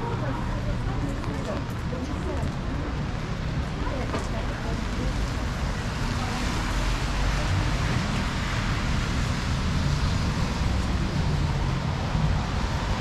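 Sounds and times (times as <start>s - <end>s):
low rumble of road traffic: 0.0s - 13.0s
steady rain falling: 0.1s - 13.0s.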